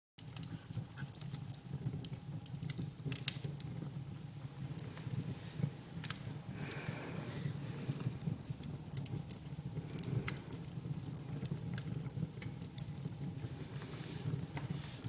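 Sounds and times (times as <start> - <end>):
wood fire crackling and popping: 0.2 - 15.0.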